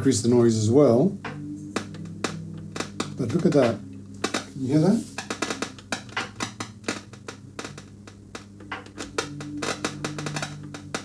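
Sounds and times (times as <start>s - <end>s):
guitar amp crackling and popping: 0.0s - 11.0s
steady amp hum: 0.0s - 11.0s.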